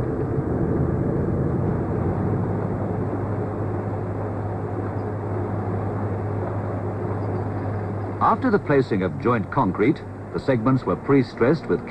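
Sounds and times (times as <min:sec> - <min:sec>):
mechanical drone with low hum: 0:00.0 - 0:11.9.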